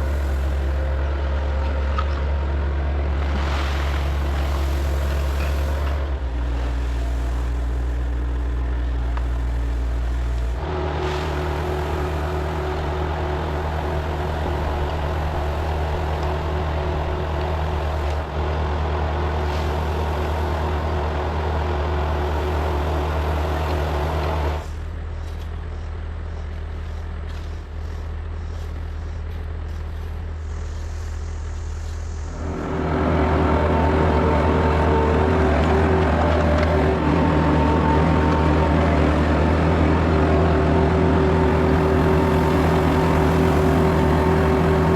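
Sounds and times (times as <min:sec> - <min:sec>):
diesel engine of heavy machinery: 0:00.0 - 0:44.9.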